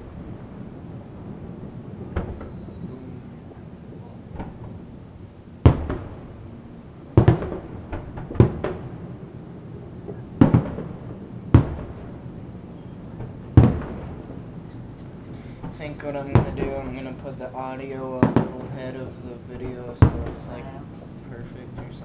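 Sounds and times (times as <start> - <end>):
firework shells booming: 0.0 - 22.0.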